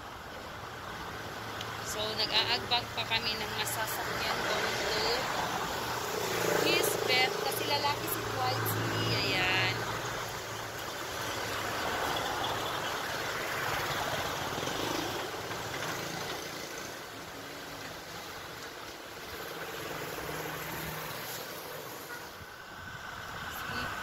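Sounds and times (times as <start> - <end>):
street traffic passing: 0.0 - 24.0.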